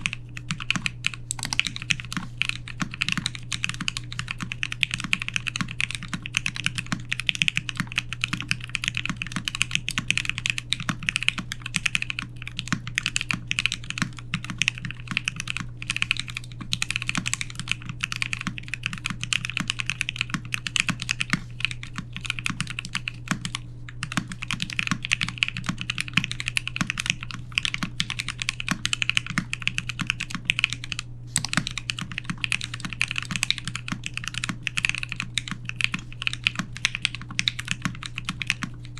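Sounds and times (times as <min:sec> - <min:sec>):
faint low hum: 0:00.0 - 0:38.9
mechanical keyboard typing: 0:00.0 - 0:38.9.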